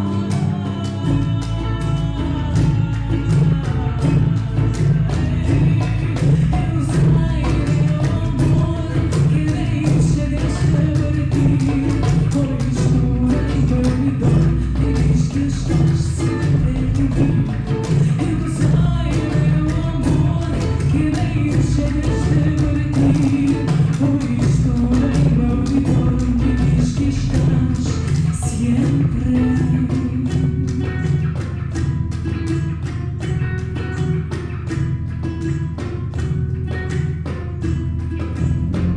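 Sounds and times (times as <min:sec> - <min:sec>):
person singing: 0:00.0 - 0:34.8
cajon beating a rhythm: 0:00.0 - 0:38.9
strummed ukulele: 0:00.0 - 0:38.9.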